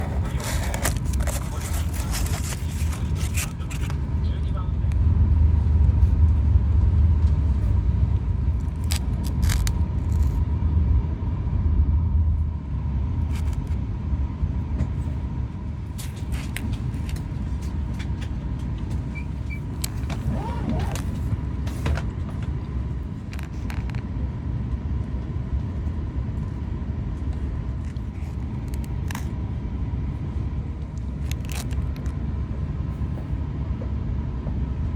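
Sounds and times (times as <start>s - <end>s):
train cabin low rumble: 0.0s - 34.9s.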